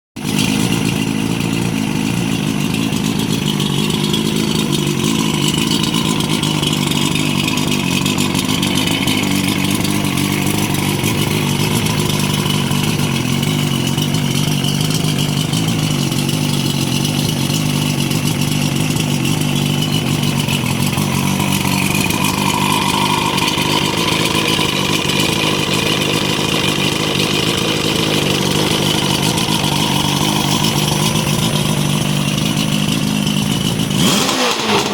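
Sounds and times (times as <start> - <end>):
outboard engine running: 0.2 - 34.9.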